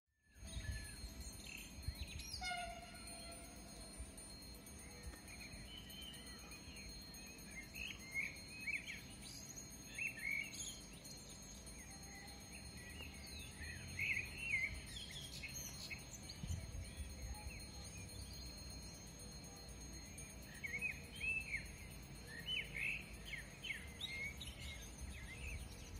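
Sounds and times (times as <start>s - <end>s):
small birds chirping: 0.2s - 25.9s.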